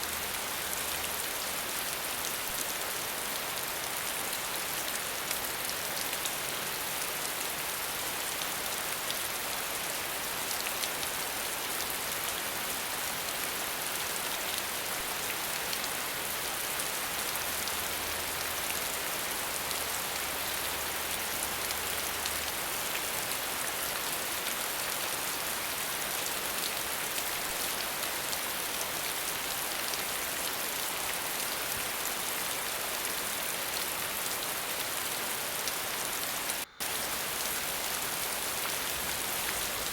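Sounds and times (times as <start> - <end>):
water falling steadily: 0.0 - 39.9.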